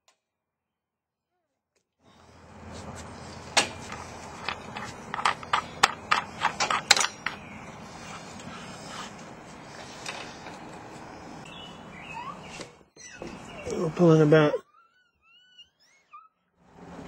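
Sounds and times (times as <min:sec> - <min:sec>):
low background hum: 0:02.1 - 0:17.0.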